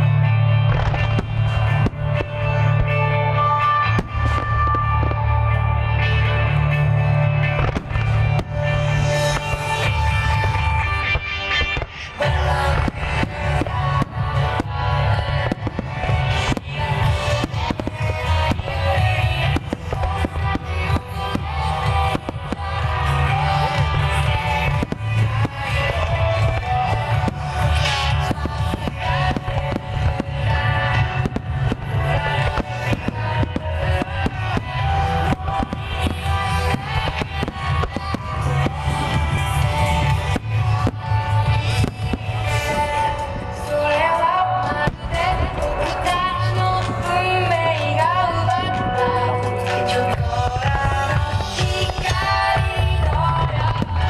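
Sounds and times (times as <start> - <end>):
loud music with heavy bass: 0.0 - 54.0
fireworks bangs: 0.7 - 5.6, 7.5 - 54.0.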